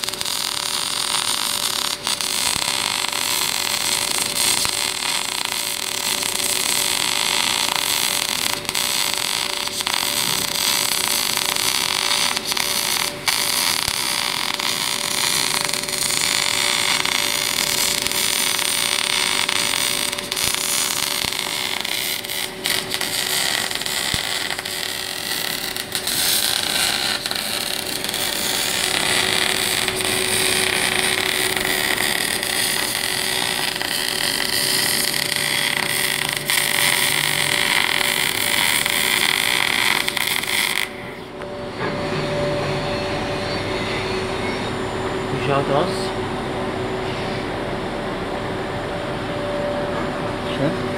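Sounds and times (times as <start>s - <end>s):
welding arc crackling: 0.0s - 41.4s.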